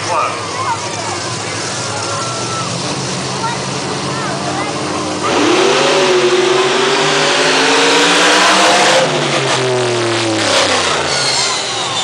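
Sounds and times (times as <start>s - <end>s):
monster truck engines revving: 0.0s - 12.0s.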